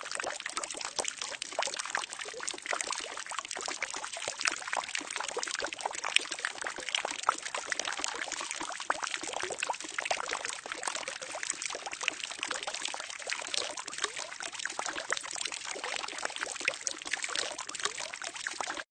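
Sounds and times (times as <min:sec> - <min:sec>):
water pouring into barrel: 0:00.0 - 0:18.8.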